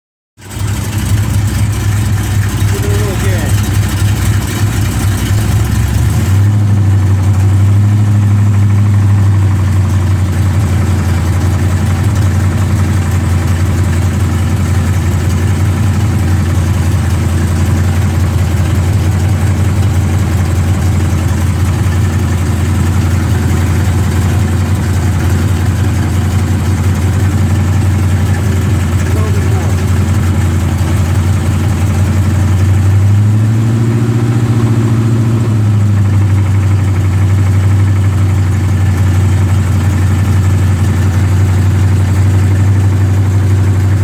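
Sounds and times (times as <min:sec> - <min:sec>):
engine idling: 0:00.4 - 0:44.0
engine knocking: 0:00.4 - 0:44.0.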